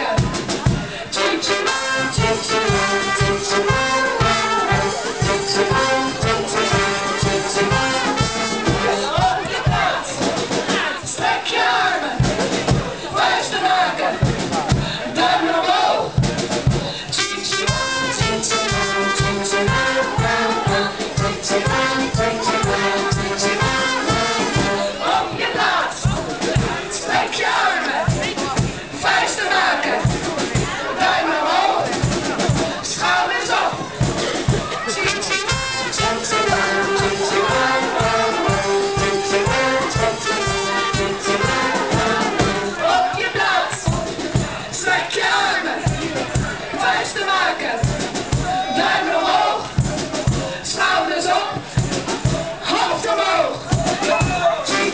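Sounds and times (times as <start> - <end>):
brass band playing: 0.0 - 54.9
children shouting and singing: 0.0 - 54.9
steady drum beat: 0.0 - 54.9.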